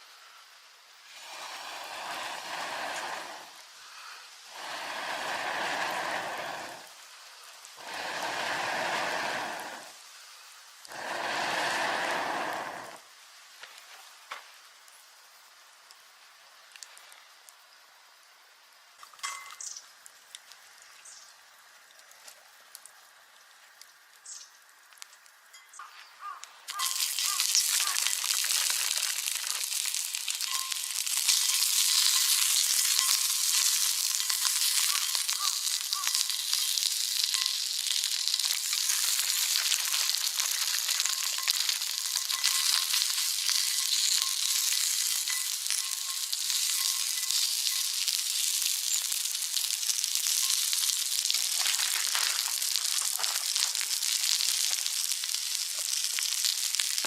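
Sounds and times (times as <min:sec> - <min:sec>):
food sizzling in a frying pan: 0:00.0 - 0:21.8, 0:22.4 - 0:57.0.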